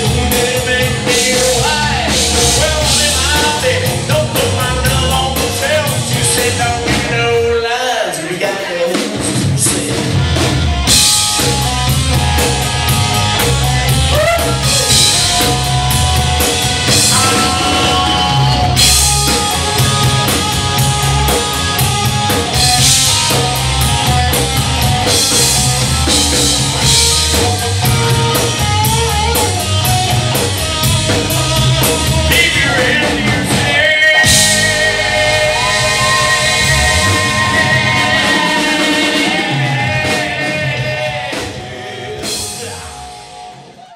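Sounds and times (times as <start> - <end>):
drum kit beat: 0.0 - 7.6, 8.4 - 43.8
bass guitar: 0.0 - 8.0, 8.9 - 43.9
electric guitar: 0.0 - 43.9.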